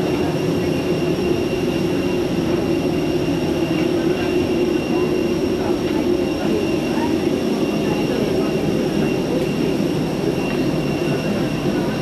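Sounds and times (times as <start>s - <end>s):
machinery humming with high whine: 0.0s - 12.0s.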